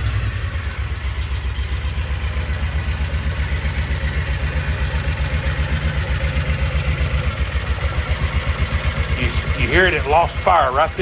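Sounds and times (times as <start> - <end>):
engine idling with a miss: 0.0 - 11.0.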